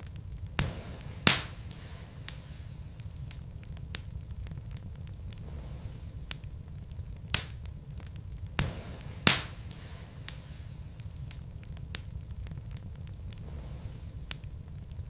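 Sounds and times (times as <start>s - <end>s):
fire crackling: 0.0s - 15.0s
loud fire pops: 0.0s - 15.0s
wood fire rumbling: 0.0s - 15.0s.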